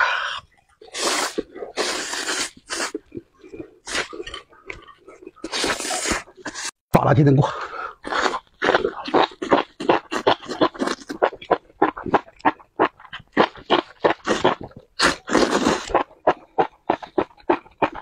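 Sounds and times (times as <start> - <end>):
man chewing and slurping: 0.0 - 6.8, 7.6 - 18.0.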